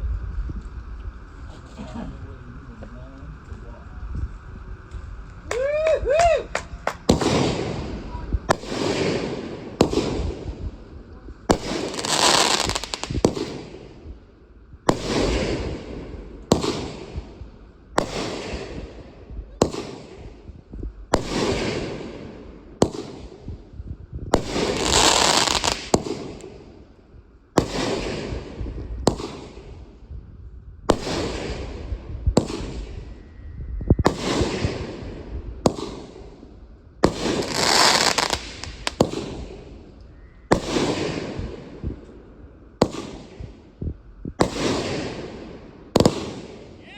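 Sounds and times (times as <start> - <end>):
fireworks banging: 0.0 - 46.9.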